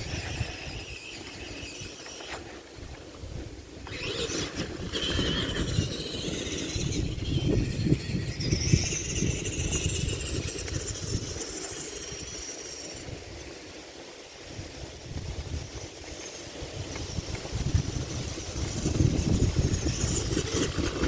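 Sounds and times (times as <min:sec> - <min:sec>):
electric motor and gear whine: 0:00.0 - 0:13.6, 0:15.0 - 0:21.0.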